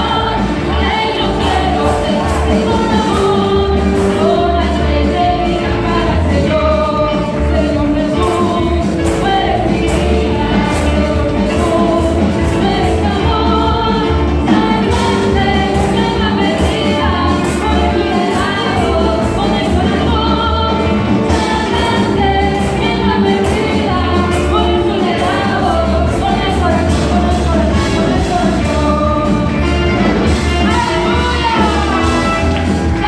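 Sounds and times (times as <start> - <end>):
band with heavy bass beat: 0.0 - 33.0
voices singing worship song: 0.0 - 33.0.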